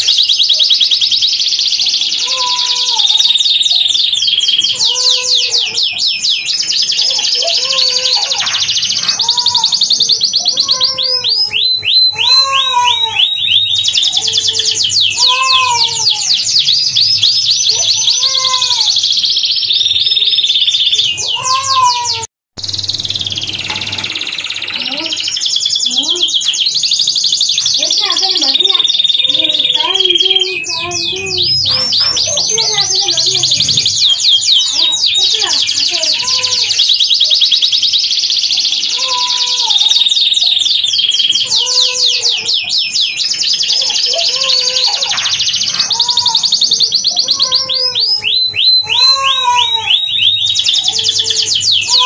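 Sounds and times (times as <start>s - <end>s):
canary singing trills: 0.0s - 52.0s.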